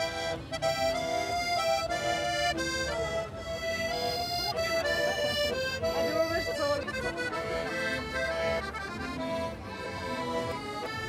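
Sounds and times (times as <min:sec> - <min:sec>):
tune in long held notes: 0:00.0 - 0:11.0.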